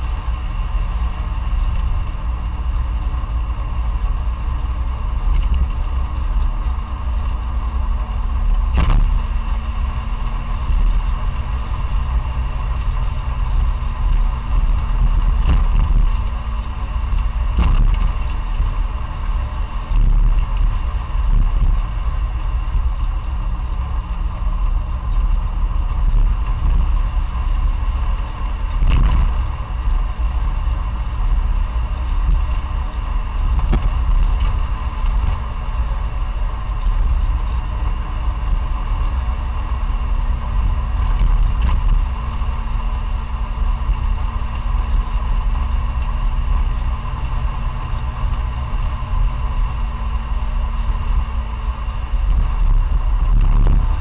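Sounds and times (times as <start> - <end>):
small car engine running: 0.0 - 54.0.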